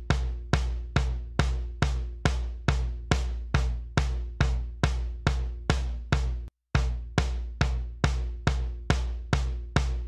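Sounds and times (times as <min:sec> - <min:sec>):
kick drum hits: 0:00.0 - 0:10.0.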